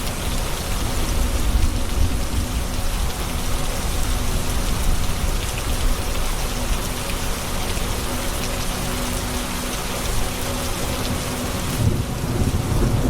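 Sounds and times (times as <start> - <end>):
heavy rain pattering on hard surfaces: 0.0 - 13.0.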